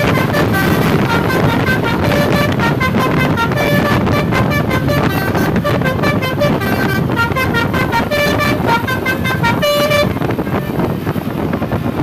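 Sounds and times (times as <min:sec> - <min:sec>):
bus horn playing tune: 0:00.0 - 0:12.0
road and engine rumble: 0:00.0 - 0:12.0.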